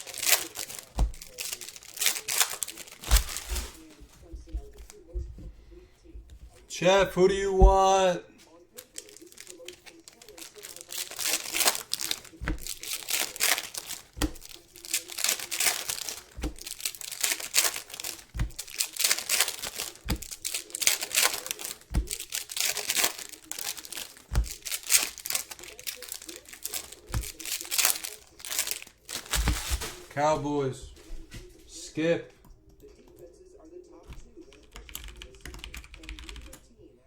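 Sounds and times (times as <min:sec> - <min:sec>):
plastic wrapping crinkling: 0:00.0 - 0:31.7.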